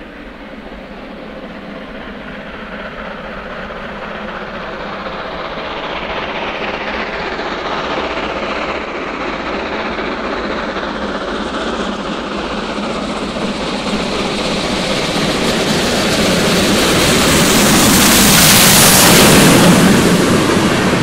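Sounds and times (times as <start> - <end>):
steam locomotive exhaust blasting: 0.0 - 21.0.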